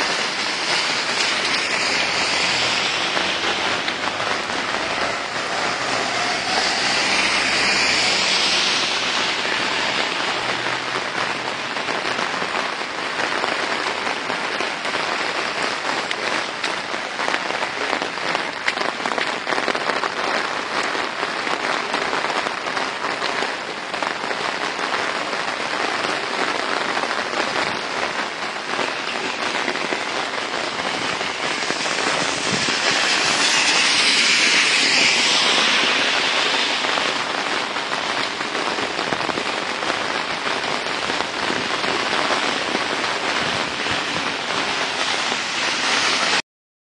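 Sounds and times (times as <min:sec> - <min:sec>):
heavy rain falling: 0:00.0 - 0:46.4.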